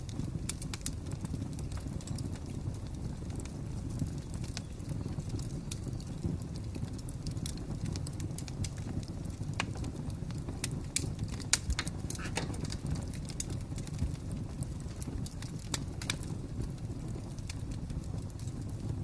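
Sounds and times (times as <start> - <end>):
fire crackling: 0.0 - 19.0
low rumble of flame: 0.0 - 19.0
sharp pops of fire: 0.0 - 19.0.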